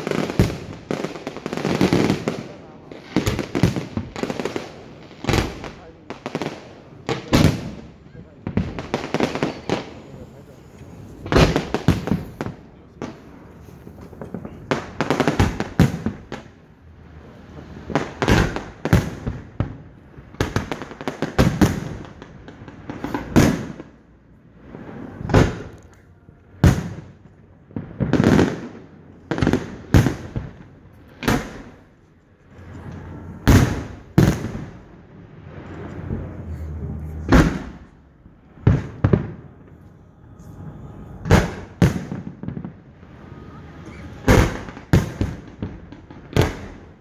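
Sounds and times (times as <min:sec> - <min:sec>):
fireworks bursting with echoing rumble: 0:00.0 - 0:25.9, 0:26.6 - 0:39.9, 0:40.6 - 0:47.0.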